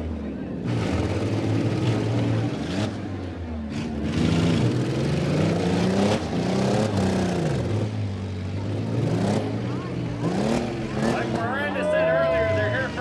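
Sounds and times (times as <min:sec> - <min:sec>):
truck engines revving hard: 0:00.0 - 0:13.0.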